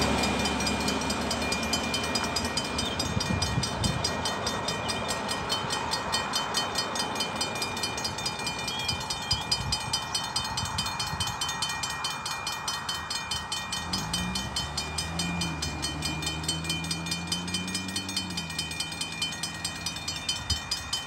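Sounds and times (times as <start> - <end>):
car engine: 0.0 - 21.0
level crossing bell ringing: 0.0 - 21.0.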